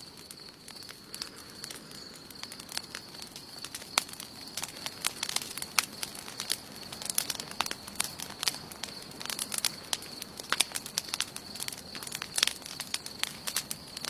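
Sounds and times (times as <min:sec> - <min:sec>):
campfire crackling and popping: 0:00.0 - 0:14.0
soft hiss of burning: 0:00.0 - 0:14.0.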